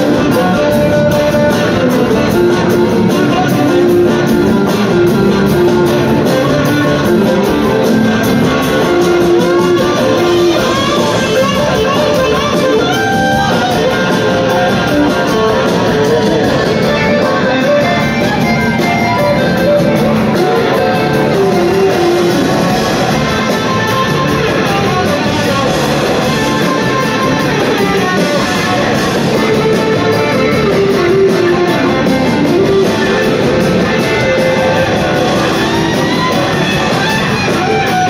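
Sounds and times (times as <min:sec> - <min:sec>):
electric guitars: 0:00.0 - 0:38.0
live blues-rock band playing: 0:00.0 - 0:38.0.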